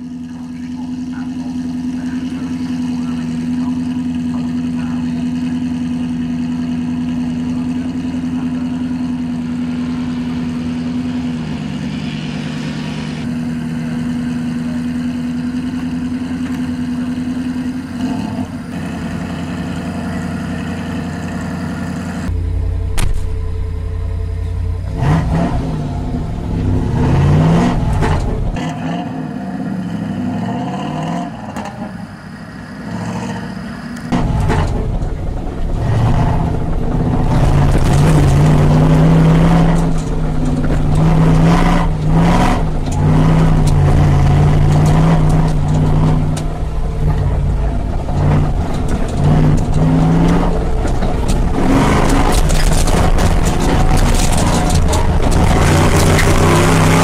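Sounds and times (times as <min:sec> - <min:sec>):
car engine idling: 0:00.0 - 0:28.6, 0:31.6 - 0:57.0
engine revving up and down: 0:00.0 - 0:57.0.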